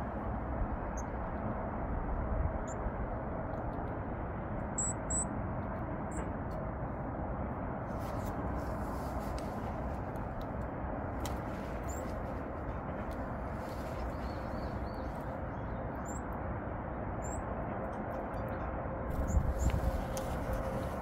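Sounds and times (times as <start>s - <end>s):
steady hiss with low rumble: 0.0s - 17.9s.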